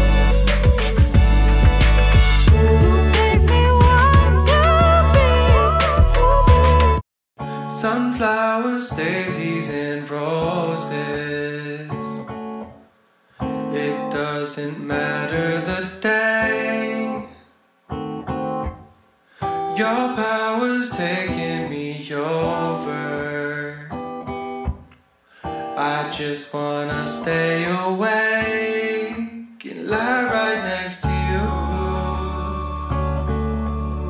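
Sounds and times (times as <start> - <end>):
acoustic guitar song: 0.0 - 34.0.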